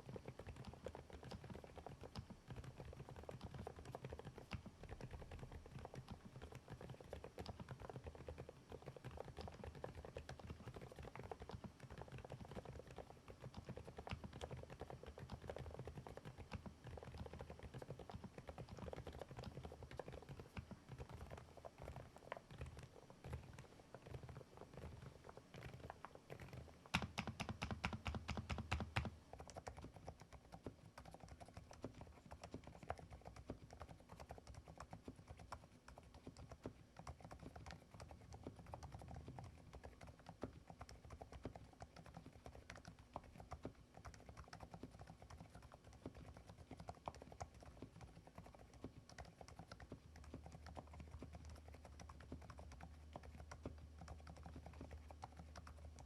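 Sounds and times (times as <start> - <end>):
fast mechanical keyboard typing: 0.0 - 56.0
soft muted typing: 0.0 - 56.0.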